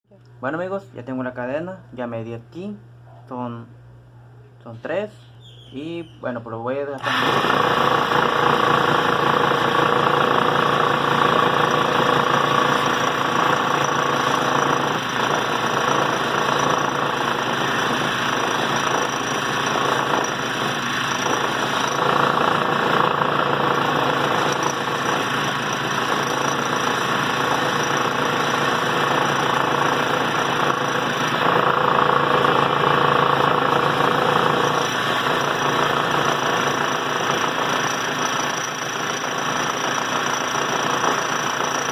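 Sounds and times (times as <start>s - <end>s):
cutting disc grinding steel: 7.0s - 41.9s.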